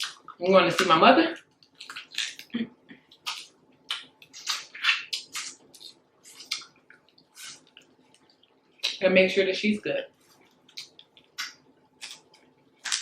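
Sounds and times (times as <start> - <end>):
wet chewing and slurping: 0.0 - 9.0, 10.2 - 13.0.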